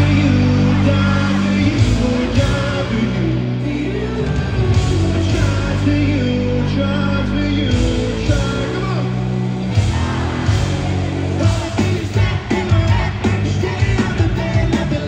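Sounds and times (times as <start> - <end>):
drums: 0.0 - 15.0
electric guitars: 0.0 - 15.0
person singing: 0.0 - 15.0.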